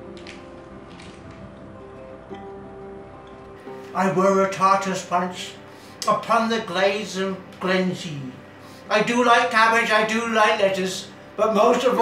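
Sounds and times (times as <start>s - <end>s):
music of sustained notes: 0.0s - 12.0s.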